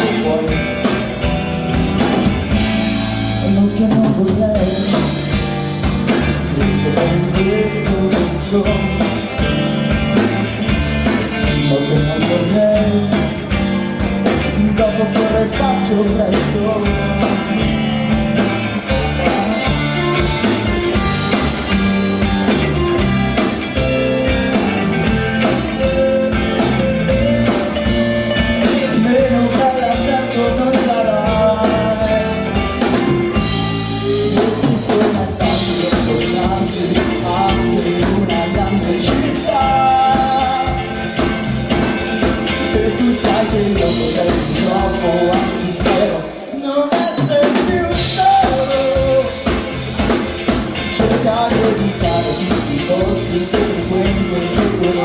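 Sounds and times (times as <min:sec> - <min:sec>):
person singing: 0:00.0 - 0:01.4, 0:03.1 - 0:10.3, 0:11.0 - 0:50.2, 0:50.8 - 0:55.0
pop-rock band playing: 0:00.0 - 0:55.0.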